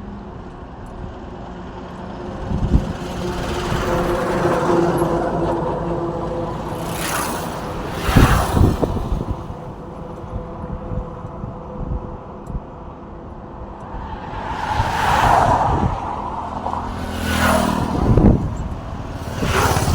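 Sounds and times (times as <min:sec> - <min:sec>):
vehicle engines running: 0:00.0 - 0:11.6, 0:12.9 - 0:19.9
vehicles passing by: 0:00.0 - 0:19.9.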